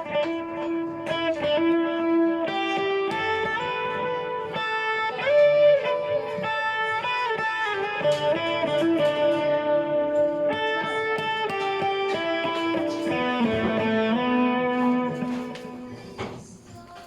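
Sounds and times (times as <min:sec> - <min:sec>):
electric guitar with delay: 0:00.0 - 0:16.9.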